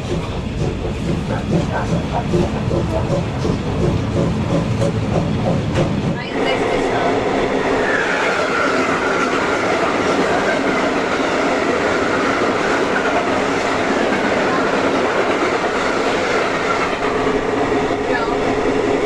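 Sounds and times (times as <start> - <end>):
train rolling on rails: 0.0 - 19.0.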